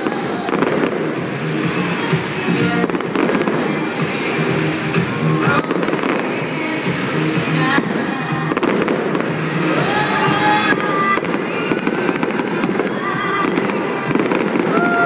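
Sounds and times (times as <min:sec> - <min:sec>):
fireworks bangs and crackle: 0:00.0 - 0:15.0
music playing: 0:00.0 - 0:15.0.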